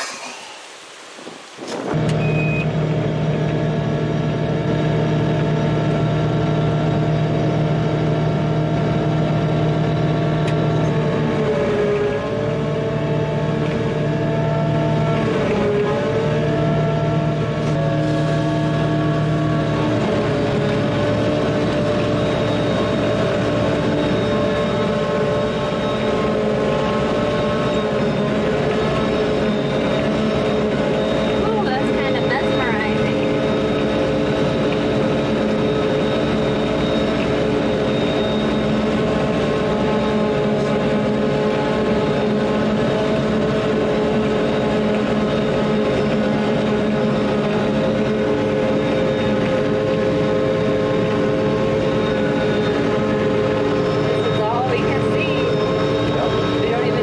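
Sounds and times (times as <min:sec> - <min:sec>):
farm machine engine under load: 0:00.0 - 0:57.0.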